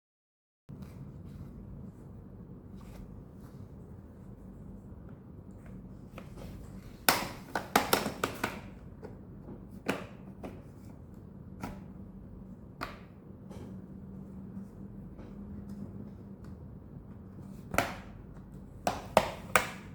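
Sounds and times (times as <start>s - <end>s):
low steady hum: 0.7s - 19.9s.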